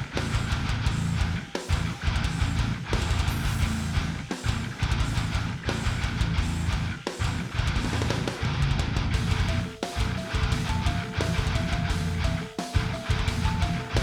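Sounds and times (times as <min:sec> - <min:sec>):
guitar rock music: 0:00.0 - 0:14.0.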